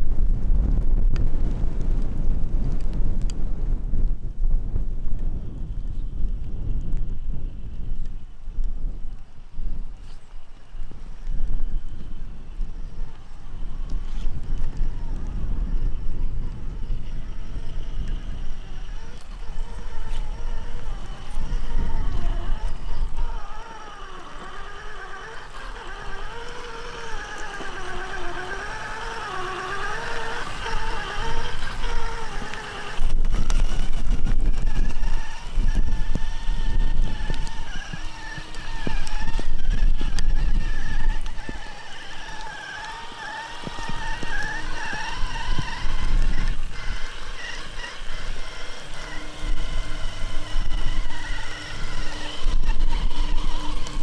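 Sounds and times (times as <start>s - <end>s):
electric motor whine: 0.0s - 54.0s.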